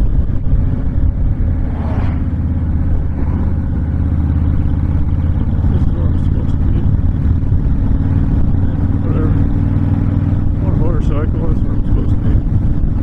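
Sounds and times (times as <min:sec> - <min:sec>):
motorcycle engine running: 0:00.0 - 0:13.0
wind rush on microphone: 0:00.0 - 0:13.0.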